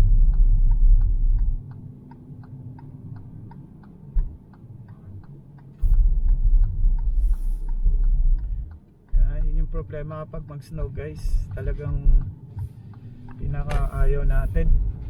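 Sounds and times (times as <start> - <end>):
car driving rumble: 0.0 - 15.0
car indicator clicking: 0.7 - 15.0.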